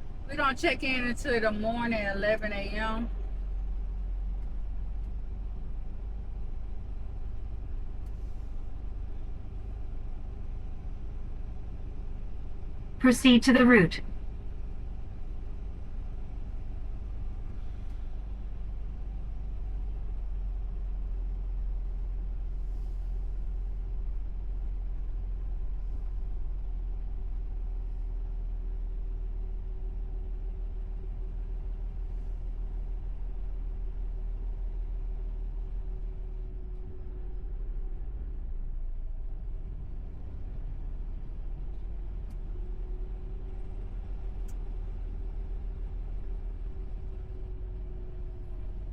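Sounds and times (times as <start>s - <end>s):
faint hum: 0.0s - 40.3s
truck engine rumble: 0.0s - 48.9s.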